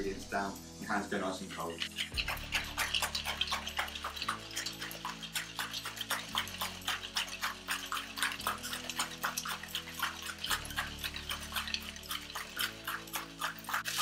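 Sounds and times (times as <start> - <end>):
ice rattling in cocktail shaker: 0.9 - 14.0.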